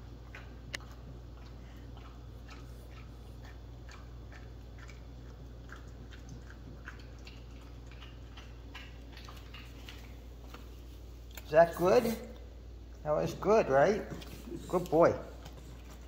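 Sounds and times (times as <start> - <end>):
dog chewing and smacking: 0.0 - 16.0
steady low hum: 0.0 - 16.0.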